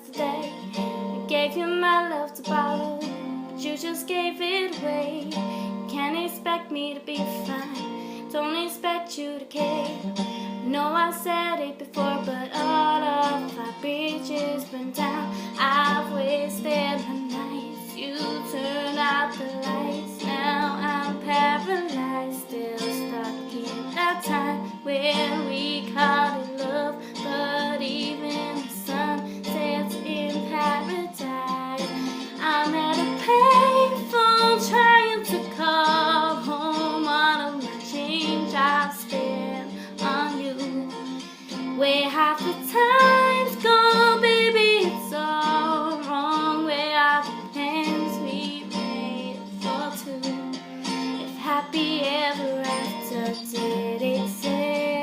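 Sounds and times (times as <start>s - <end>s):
plucked acoustic guitar: 0.0s - 55.0s
woman singing a pop song: 0.0s - 55.0s.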